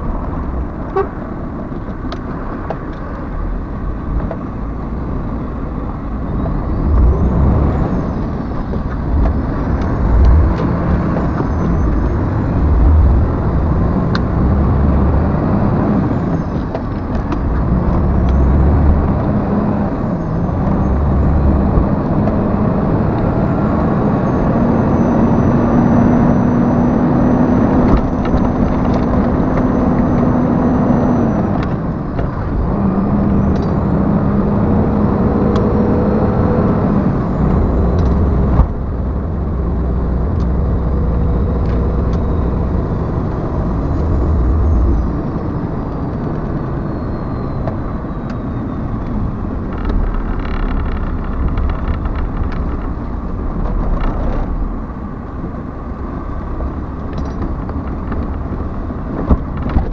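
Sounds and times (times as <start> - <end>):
road and tyre noise: 0.0 - 59.9
truck diesel engine rumble: 0.0 - 59.9.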